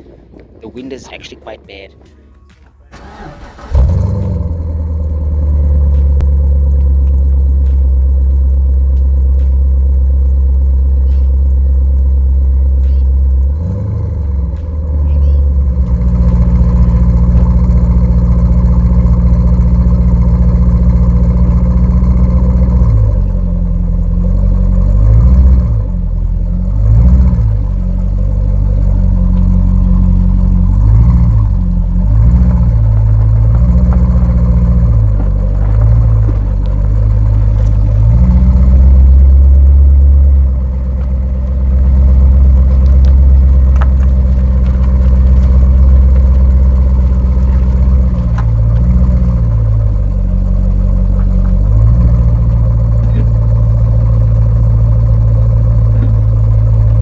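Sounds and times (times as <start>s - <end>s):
car engine idling rumble: 0.0s - 57.0s
engine revving blips: 0.0s - 57.0s.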